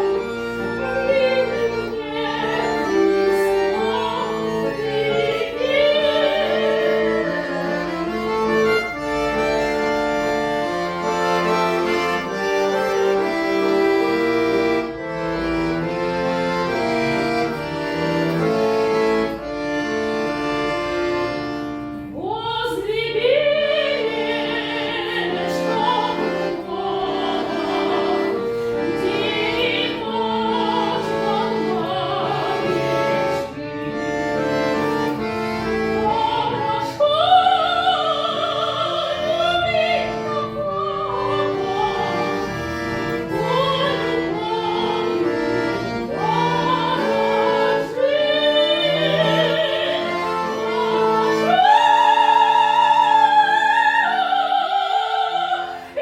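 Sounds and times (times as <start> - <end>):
button accordion chords: 0.0 - 56.0
classical singing with vibrato: 0.0 - 56.0.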